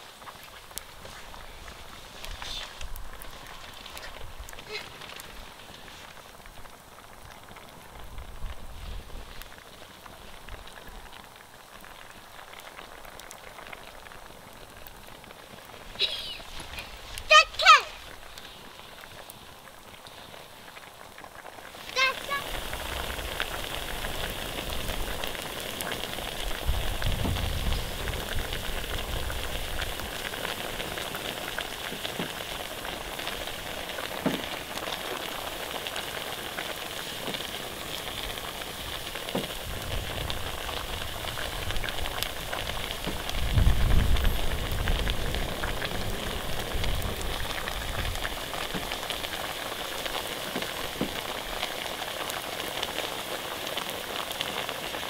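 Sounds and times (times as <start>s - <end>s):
meat sizzling in hot fat: 0.0s - 55.0s.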